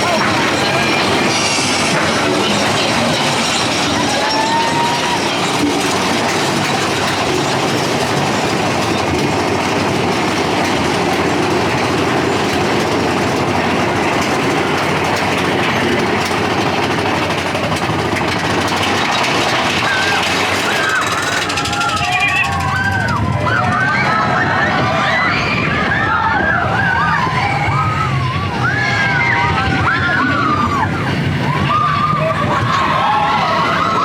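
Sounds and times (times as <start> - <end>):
roller coaster running on track: 0.0 - 34.0.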